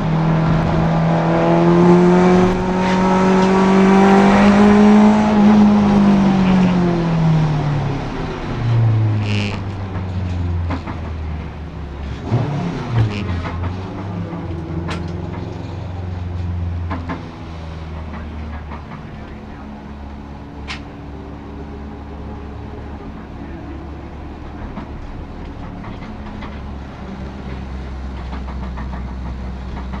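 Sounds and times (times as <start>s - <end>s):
race car engine running at low revs: 0.0s - 30.0s.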